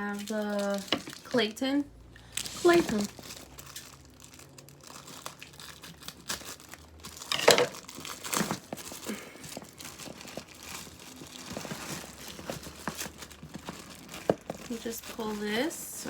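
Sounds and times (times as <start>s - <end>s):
packaging crinkling and rustling: 0.0s - 1.6s, 2.2s - 16.0s.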